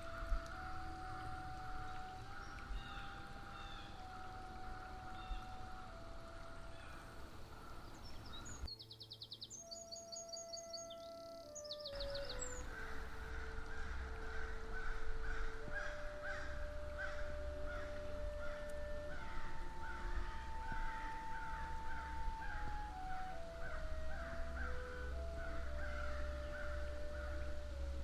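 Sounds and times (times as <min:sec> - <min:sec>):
crows cawing: 0:00.0 - 0:08.7, 0:12.0 - 0:27.7.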